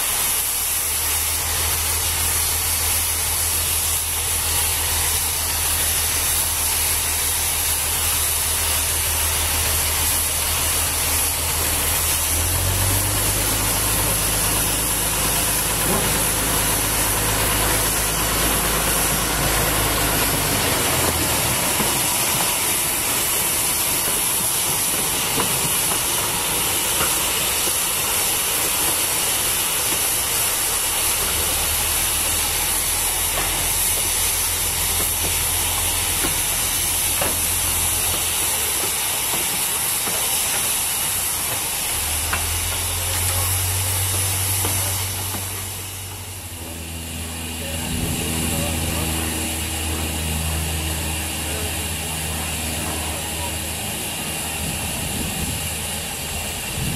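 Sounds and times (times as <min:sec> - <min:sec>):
locomotive engine running low: 0:00.0 - 0:56.9
steam hissing: 0:00.0 - 0:56.9
tram cars rolling by: 0:00.0 - 0:56.9.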